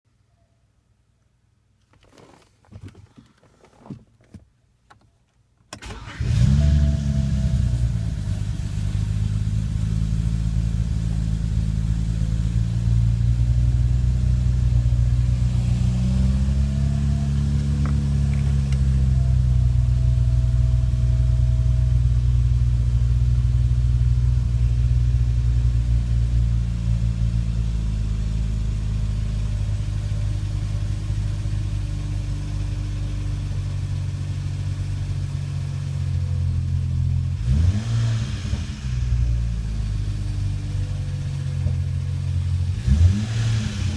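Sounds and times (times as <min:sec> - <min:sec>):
car engine running: 0:05.9 - 0:43.9.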